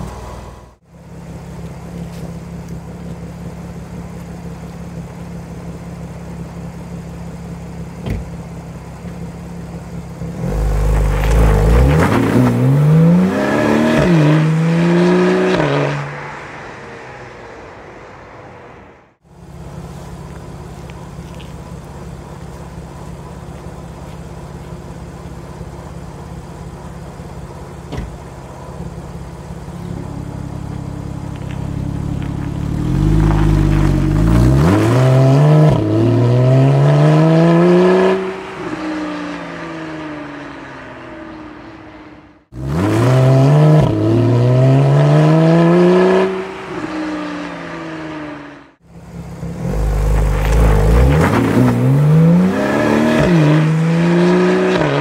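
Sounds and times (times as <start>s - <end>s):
car engine revving: 2.6s - 55.0s.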